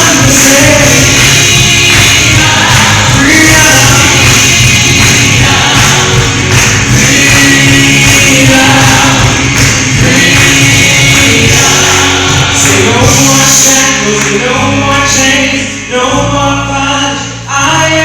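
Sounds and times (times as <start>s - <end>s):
band with bass and drums: 0.0s - 17.0s
gospel singing: 0.0s - 18.0s.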